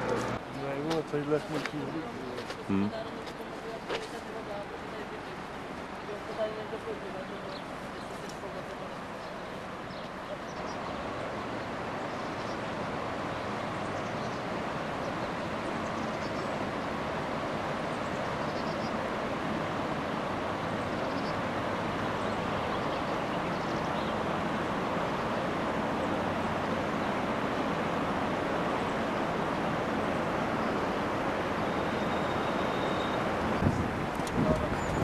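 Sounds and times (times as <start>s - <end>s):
river rushing in flood: 0.0s - 35.0s.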